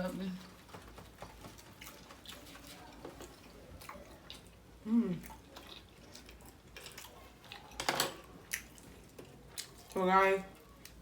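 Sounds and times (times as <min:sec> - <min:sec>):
chewing with wet mouth clicks: 0:01.6 - 0:11.0.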